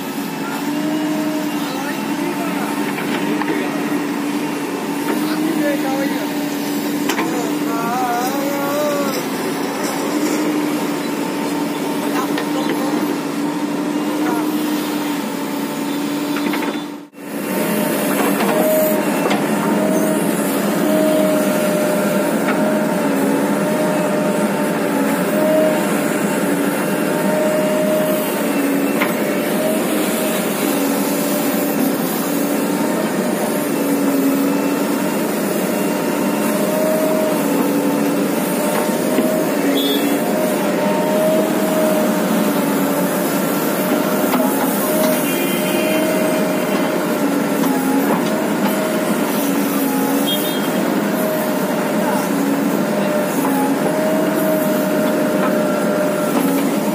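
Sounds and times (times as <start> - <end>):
diesel engine under hydraulic load: 0.0 - 56.9.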